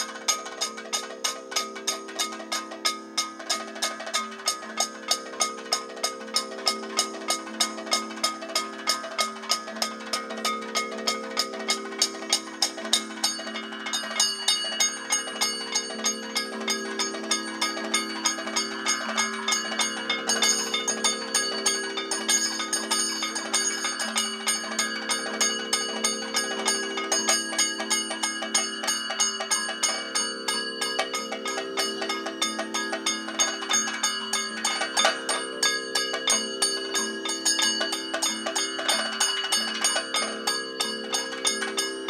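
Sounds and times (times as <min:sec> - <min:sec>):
hand cymbals: 0:00.0 - 0:42.0
steady drone: 0:00.0 - 0:42.0.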